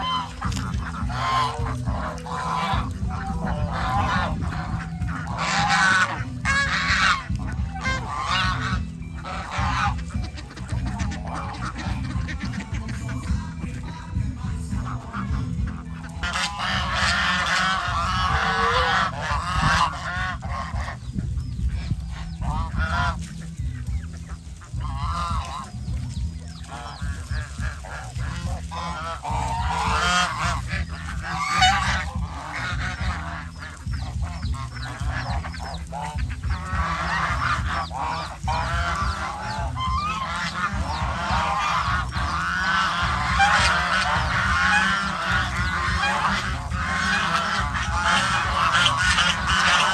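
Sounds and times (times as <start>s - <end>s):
geese honking: 0.0s - 49.9s.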